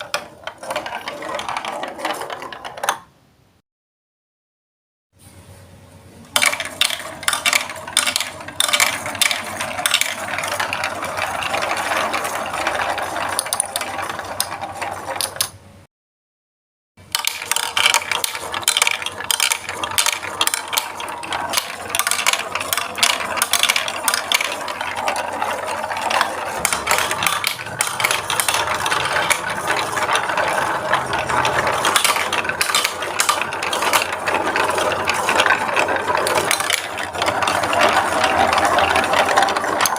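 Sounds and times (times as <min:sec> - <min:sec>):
marbles rolling on plastic track: 0:00.0 - 0:03.1, 0:06.3 - 0:15.6, 0:17.0 - 0:39.9.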